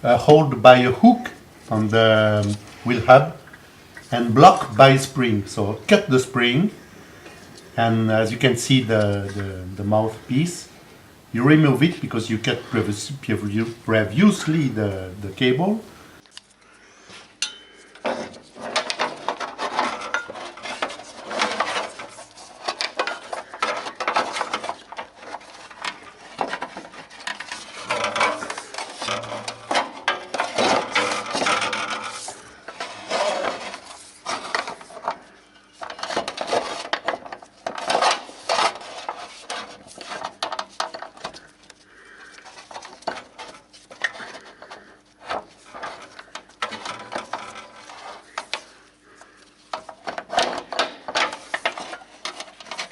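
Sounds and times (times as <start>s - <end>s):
metal scraping and rubbing: 0.0s - 16.2s, 18.0s - 52.9s.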